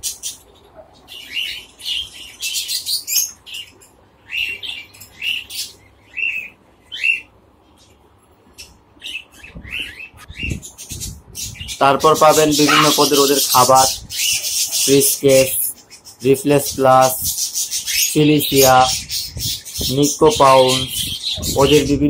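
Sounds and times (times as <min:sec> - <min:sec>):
finches and budgerigars chirping: 0:00.0 - 0:22.0.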